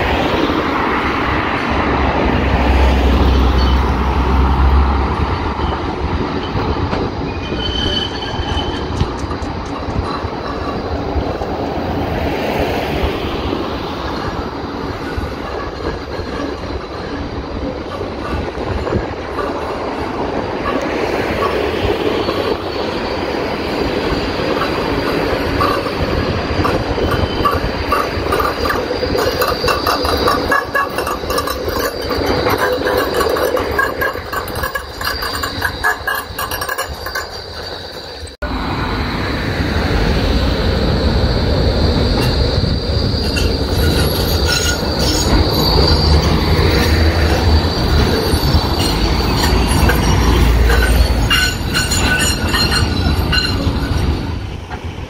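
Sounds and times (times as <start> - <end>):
tram rumbling and clattering: 0.0 - 55.0
tram wheel squeal: 0.0 - 55.0.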